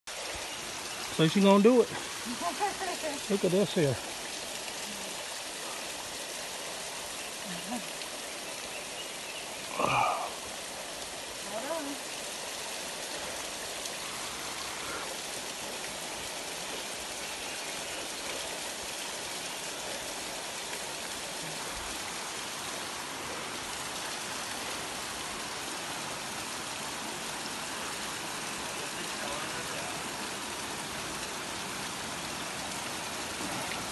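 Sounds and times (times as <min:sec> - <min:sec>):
waterfall splashing into pool: 0:00.1 - 0:33.9.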